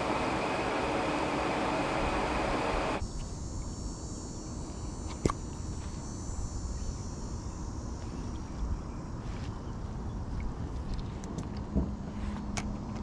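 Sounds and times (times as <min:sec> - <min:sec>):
high-pitched insect chorus: 0:00.0 - 0:10.7.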